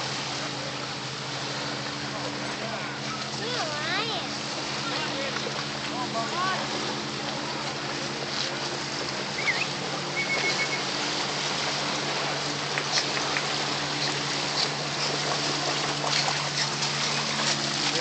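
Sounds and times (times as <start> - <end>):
small splashes: 0.0 - 18.0
small waves lapping on gravel: 0.0 - 18.0.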